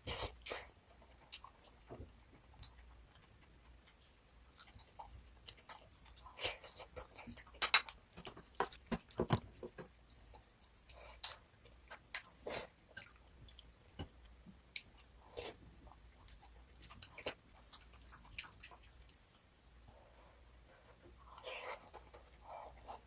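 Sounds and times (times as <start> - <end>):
person chewing and crunching food: 0.0 - 23.0.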